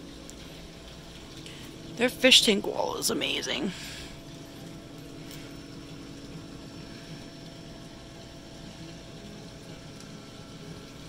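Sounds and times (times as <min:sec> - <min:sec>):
aquarium filter pumps humming: 0:00.0 - 0:11.0
water circulating: 0:00.0 - 0:11.0.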